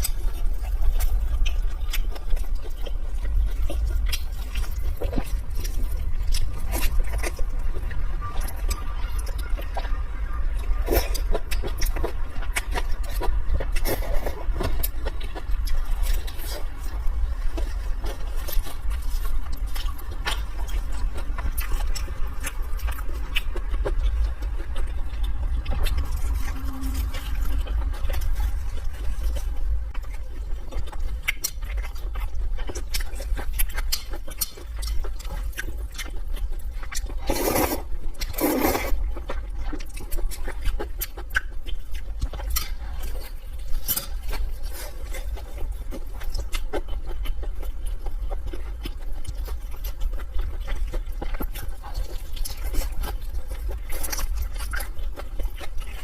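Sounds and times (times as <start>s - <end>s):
steady low rumble: 0.0s - 56.0s
wet chewing: 0.0s - 56.0s.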